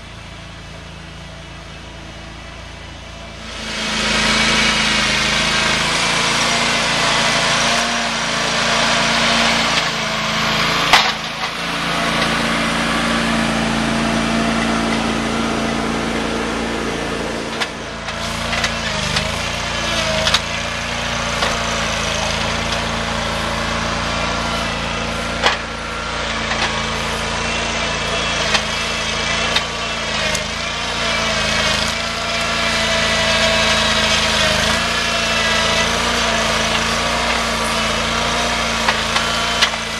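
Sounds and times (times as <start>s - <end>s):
chainsaw cutting wood: 3.4s - 39.9s.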